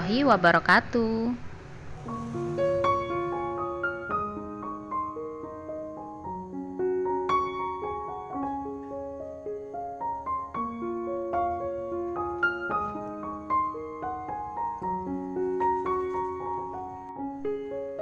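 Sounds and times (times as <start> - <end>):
gentle piano music: 1.3 - 18.0.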